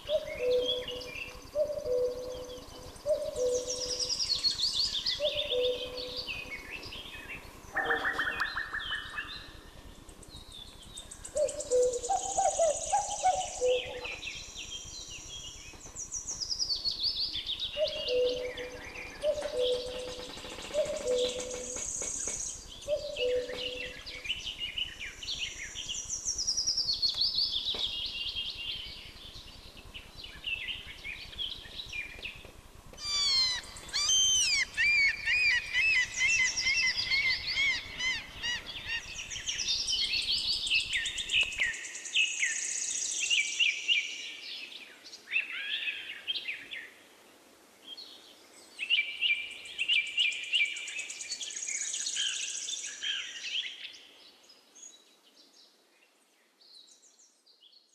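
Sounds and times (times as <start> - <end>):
low background noise: 0.0 - 57.9
songbirds singing: 0.0 - 57.9.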